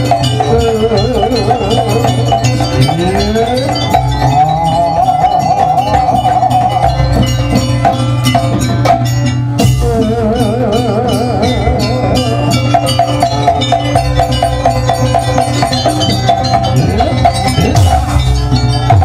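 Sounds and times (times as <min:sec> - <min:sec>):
gamelan music: 0:00.0 - 0:19.0
gongs and metallophones: 0:00.0 - 0:19.0
hand drums: 0:00.0 - 0:19.0.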